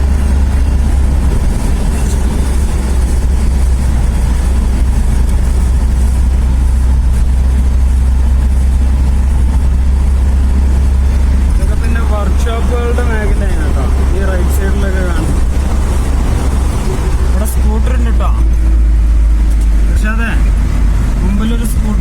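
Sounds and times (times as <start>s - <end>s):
van engine and road noise: 0.0s - 22.0s.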